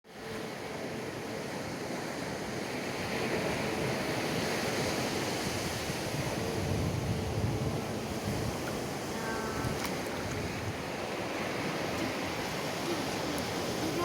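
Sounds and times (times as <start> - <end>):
wind: 0.0 - 14.0
sea water rushing: 0.1 - 14.0.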